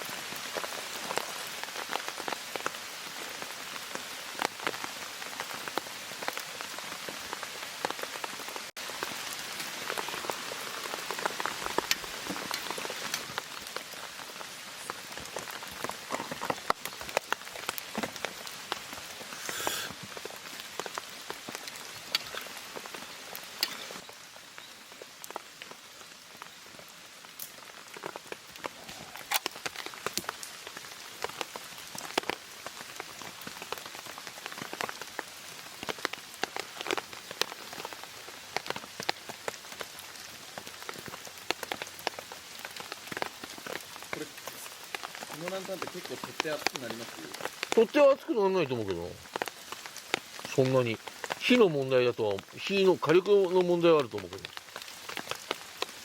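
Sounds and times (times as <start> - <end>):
rain on a tarp: 0.0 - 56.0.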